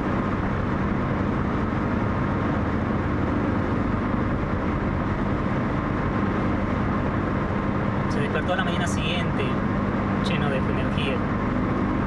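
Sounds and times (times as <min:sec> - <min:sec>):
car engine hum inside cabin: 0:00.0 - 0:12.0
tyre road rumble: 0:00.0 - 0:12.0.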